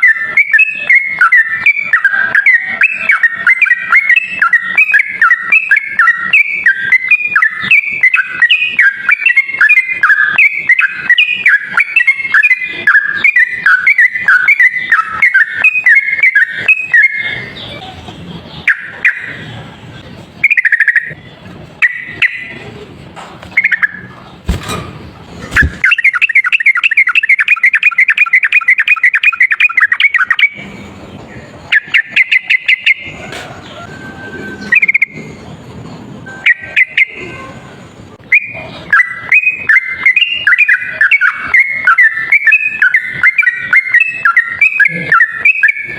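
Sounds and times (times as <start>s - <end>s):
bird chattering song: 0.0s - 37.4s, 38.2s - 45.9s.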